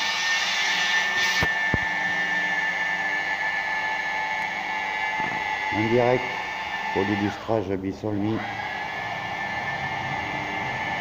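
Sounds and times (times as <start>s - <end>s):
car polishing machine whining: 0.0s - 11.0s.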